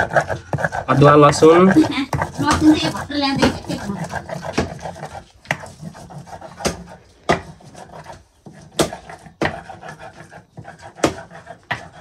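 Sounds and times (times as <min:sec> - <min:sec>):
stone grinding on stone: 0:00.0 - 0:12.0.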